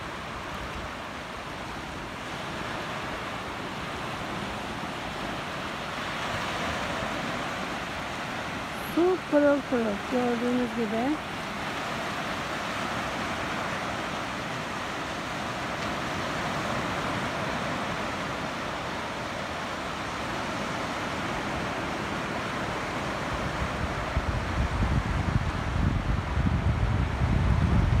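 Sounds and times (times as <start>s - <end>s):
sea waves washing on shore: 0.0s - 28.0s
wind buffeting microphone: 0.0s - 28.0s.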